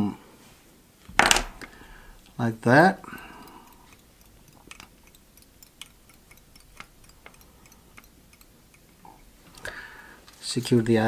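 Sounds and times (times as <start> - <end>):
faint sharp clicks and ticks: 1.6 - 10.8.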